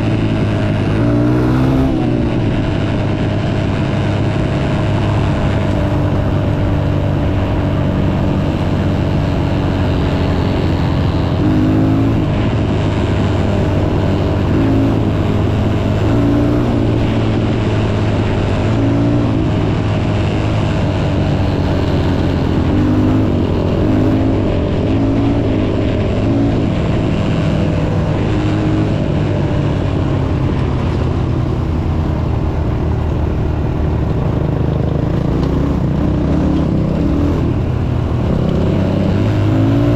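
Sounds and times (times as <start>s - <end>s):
dirt bike engine revving: 0.0s - 31.0s, 32.5s - 39.9s.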